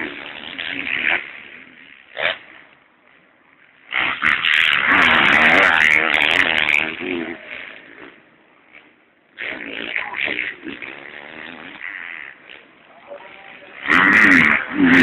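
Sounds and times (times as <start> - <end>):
motocross bikes racing past: 0.0 - 15.0.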